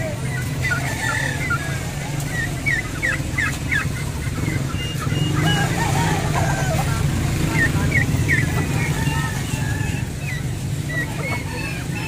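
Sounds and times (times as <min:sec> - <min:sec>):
poultry chirping and peeping: 0:00.0 - 0:12.0.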